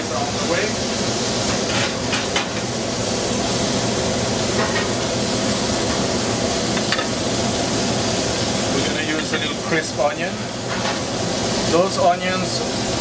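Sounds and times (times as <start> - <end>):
sizzling hiss of cooking: 0.0 - 13.0.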